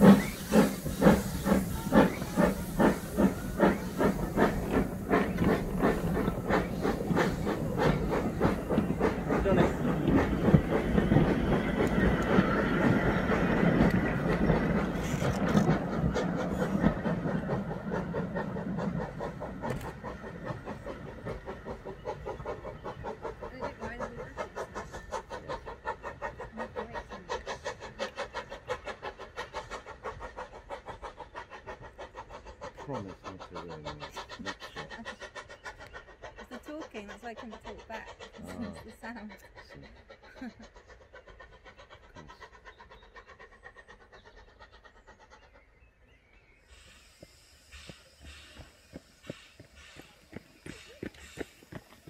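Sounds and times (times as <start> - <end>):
steam locomotive chuffing: 0.0 - 52.0.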